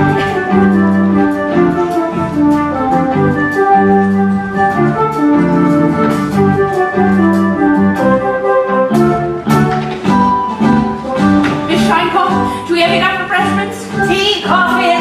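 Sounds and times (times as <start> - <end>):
keyboard chords over a beat: 0.0 - 15.0.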